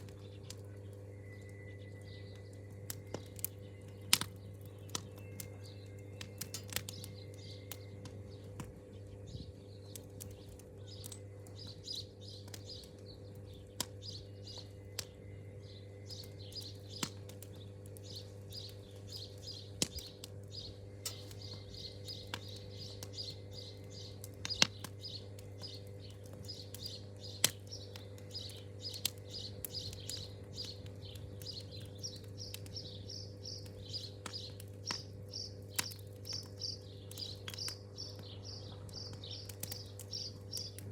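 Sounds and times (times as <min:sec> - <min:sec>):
birds chirping: 0:00.0 - 0:40.9
campfire crackling and popping: 0:00.0 - 0:40.9
low hum: 0:00.0 - 0:40.9.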